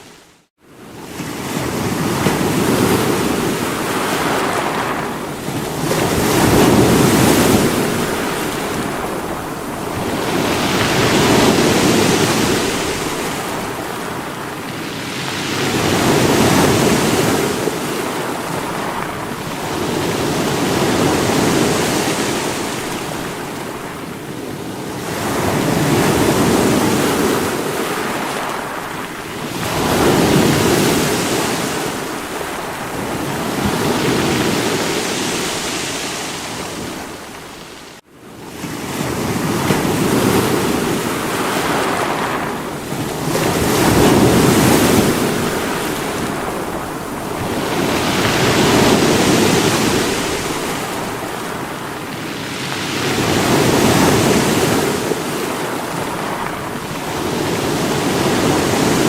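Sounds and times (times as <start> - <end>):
sea waves breaking against rocks: 1.0 - 38.0, 38.6 - 59.0.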